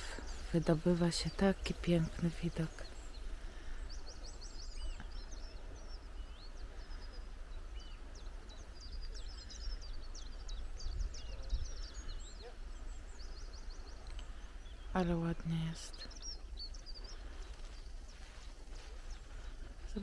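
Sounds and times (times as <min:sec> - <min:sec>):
songbirds chirping: 0:00.0 - 0:20.0.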